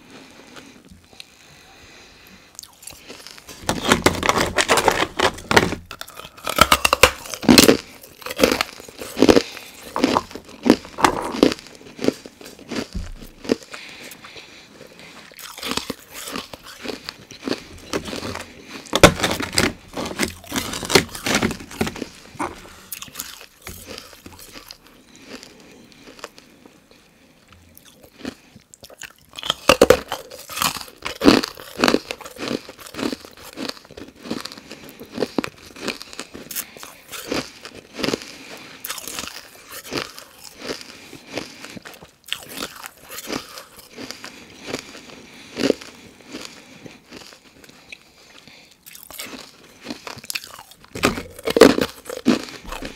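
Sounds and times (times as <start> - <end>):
ice crunching while chewed: 2.4 - 52.9.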